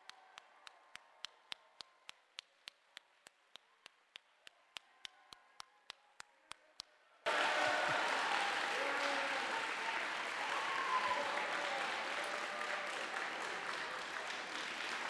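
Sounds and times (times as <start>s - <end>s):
faint hand claps: 0.0s - 15.0s.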